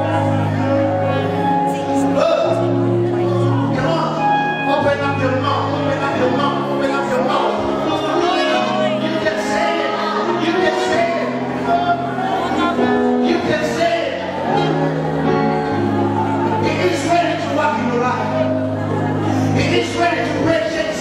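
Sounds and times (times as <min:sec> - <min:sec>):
gospel worship music with singing: 0:00.0 - 0:21.0.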